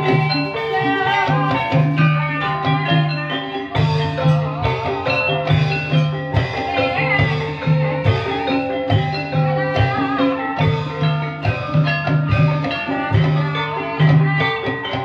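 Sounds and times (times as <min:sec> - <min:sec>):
mallet instruments playing melody: 0:00.0 - 0:15.0
steady drum beat: 0:00.0 - 0:15.0.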